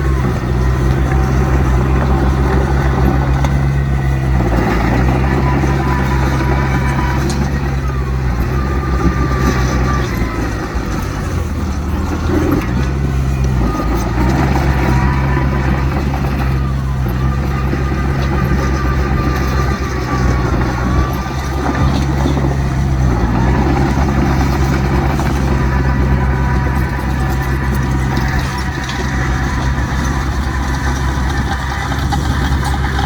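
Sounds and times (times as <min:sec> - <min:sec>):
heavy diesel engines running: 0:00.0 - 0:33.0.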